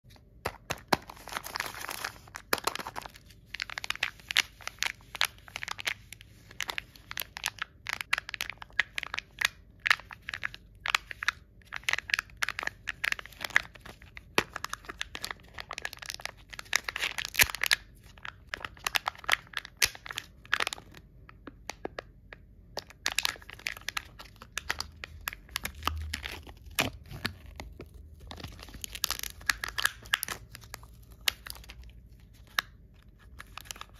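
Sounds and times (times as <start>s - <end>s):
foil wrapper crinkling and tearing: 0.7s - 21.0s, 23.0s - 33.9s.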